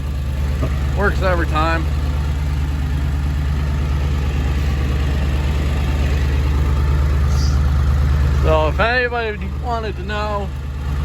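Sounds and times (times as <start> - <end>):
diesel engine high idle: 0.0 - 11.0.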